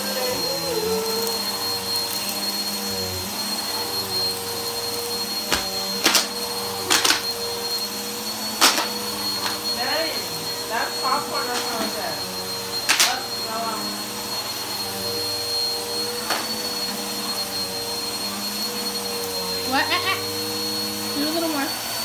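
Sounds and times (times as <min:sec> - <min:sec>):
vacuum cleaner whining on carpet: 0:00.0 - 0:22.0.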